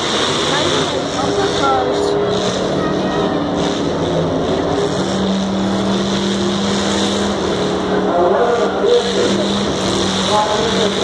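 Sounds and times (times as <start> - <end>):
car engines running: 0.0 - 11.0
loud din: 0.4 - 11.0.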